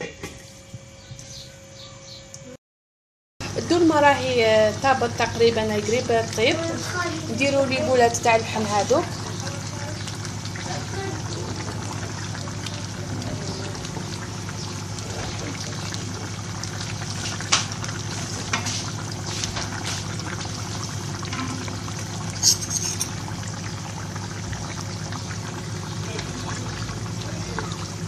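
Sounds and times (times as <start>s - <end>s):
sauce bubbling in a pan: 3.4s - 28.0s.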